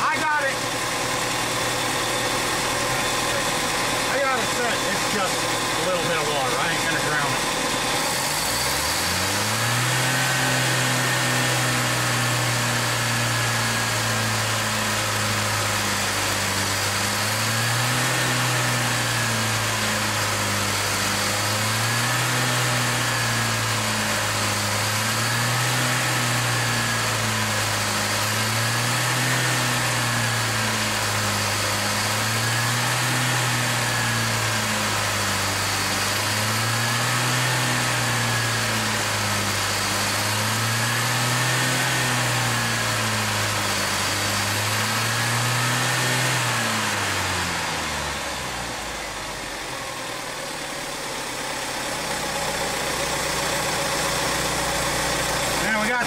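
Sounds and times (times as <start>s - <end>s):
engine running at fast idle: 0.0s - 56.0s.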